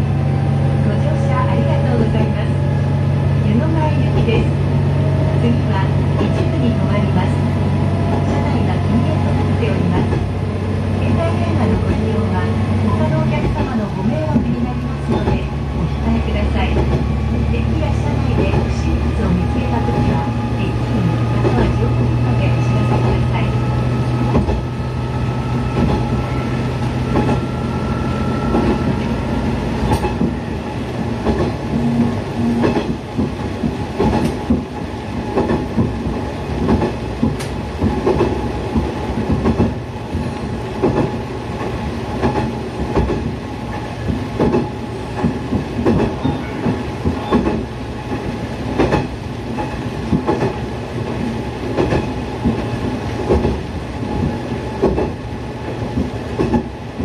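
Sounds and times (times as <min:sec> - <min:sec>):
diesel railcar engine hum: 0:00.0 - 0:57.0.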